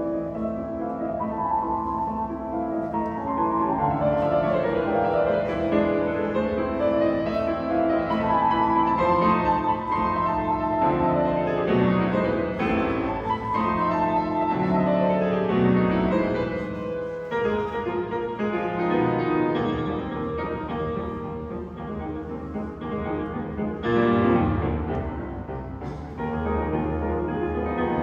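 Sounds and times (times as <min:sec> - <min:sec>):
piano trio playing classical music: 0:00.0 - 0:28.0.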